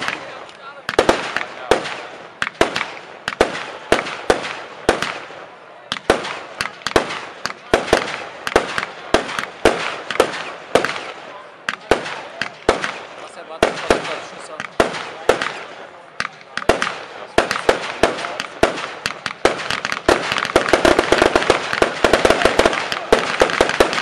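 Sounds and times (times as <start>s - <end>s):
fireworks reports: 0.0s - 24.0s.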